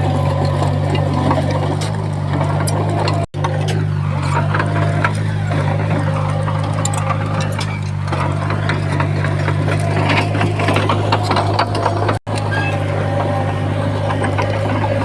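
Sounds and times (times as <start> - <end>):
heavy diesel engine under load: 0.0 - 15.0
metallic clanking and rattling: 0.0 - 15.0.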